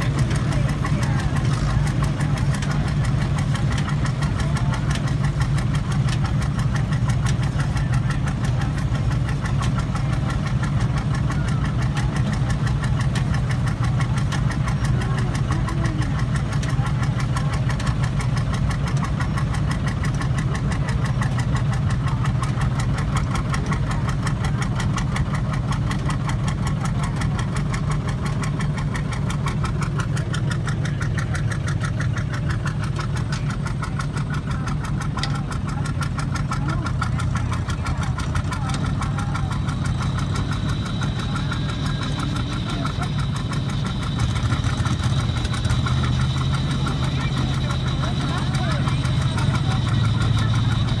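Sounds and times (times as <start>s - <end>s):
tractor engine running: 0.0s - 51.0s.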